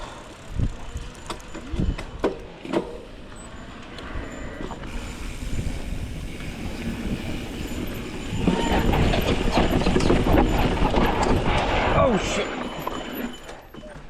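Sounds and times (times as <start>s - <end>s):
bike rattling and clattering: 0.0s - 14.0s.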